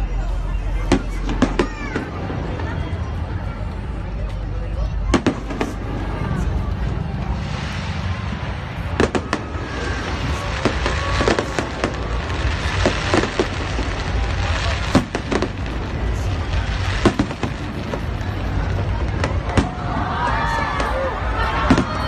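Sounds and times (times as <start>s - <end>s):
fireworks bangs and pops: 0.8s - 2.8s, 5.1s - 22.0s.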